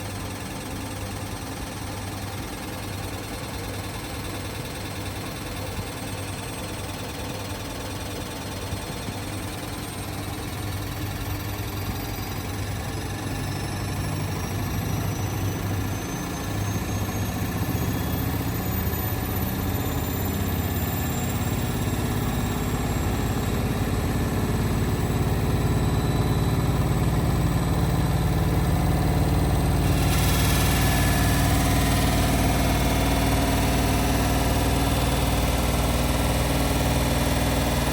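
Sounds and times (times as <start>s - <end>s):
washing machine motor whine: 0.0s - 37.9s.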